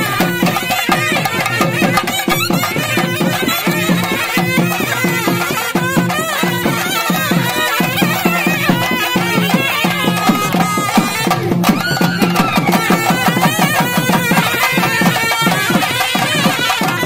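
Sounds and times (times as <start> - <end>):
drums beating fast rhythm: 0.0 - 17.0
reedy wind instrument melody: 0.0 - 17.0.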